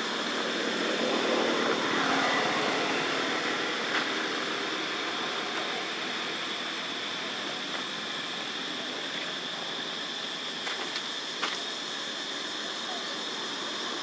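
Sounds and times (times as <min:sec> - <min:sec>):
high-pitched whine: 0:00.0 - 0:14.0
outdoor background hiss: 0:00.0 - 0:14.0.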